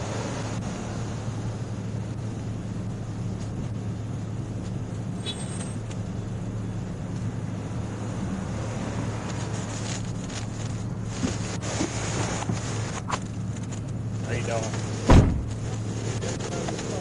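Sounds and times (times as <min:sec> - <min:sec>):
vehicle idling hum: 0:00.0 - 0:17.0.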